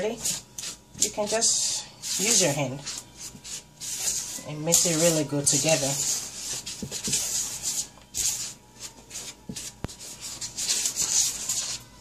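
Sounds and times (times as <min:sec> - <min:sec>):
flour rubbing swishes: 0:00.0 - 0:12.0.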